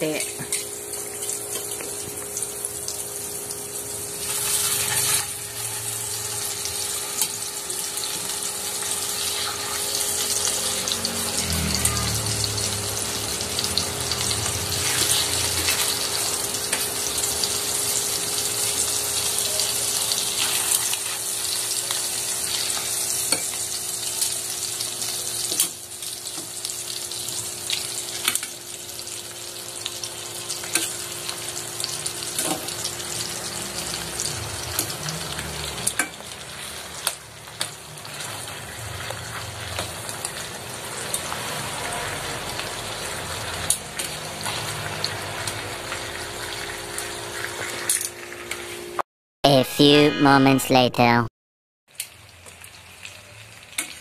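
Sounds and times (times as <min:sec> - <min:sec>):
chicken sizzling in butter: 0:00.0 - 0:47.9, 0:51.9 - 0:54.0
frying crackles: 0:00.0 - 0:48.8, 0:51.9 - 0:54.0.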